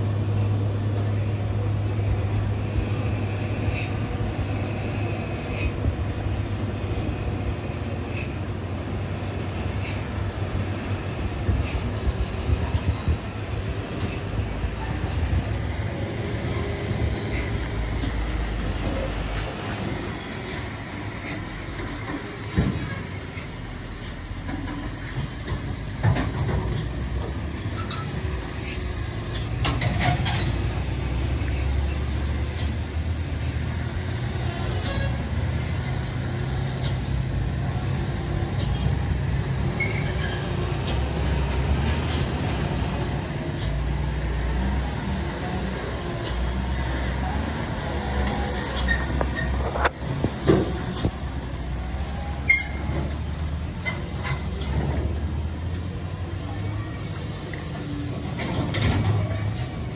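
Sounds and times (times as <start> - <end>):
diesel truck engines droning: 0.0 - 59.9.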